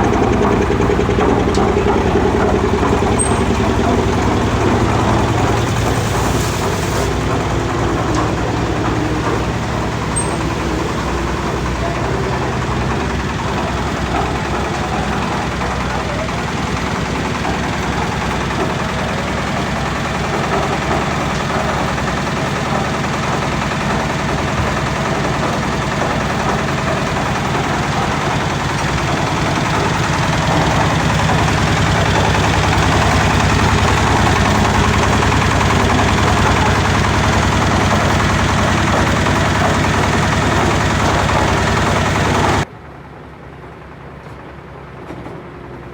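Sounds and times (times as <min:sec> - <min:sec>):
heavy vehicle engine running: 0:00.0 - 0:45.9.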